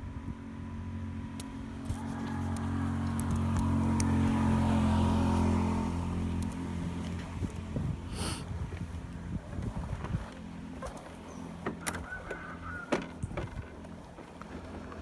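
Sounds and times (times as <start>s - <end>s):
vehicle engine hum passing by: 0.0s - 15.0s.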